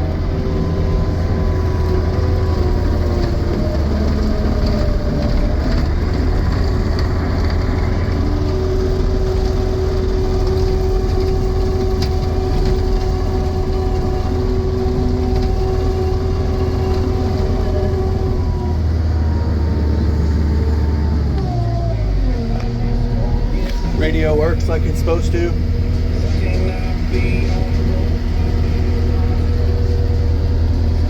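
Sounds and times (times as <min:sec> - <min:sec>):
diesel engine running: 0:00.0 - 0:31.0
steady whine: 0:00.0 - 0:31.0.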